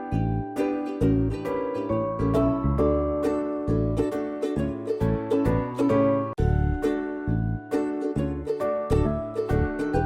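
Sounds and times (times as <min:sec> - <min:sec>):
plucked string melody: 0:00.0 - 0:10.0
steady bass line: 0:00.0 - 0:10.0.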